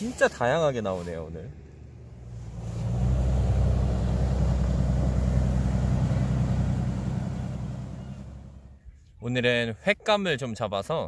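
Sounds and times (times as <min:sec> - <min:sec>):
low engine rumble: 0:00.0 - 0:09.2.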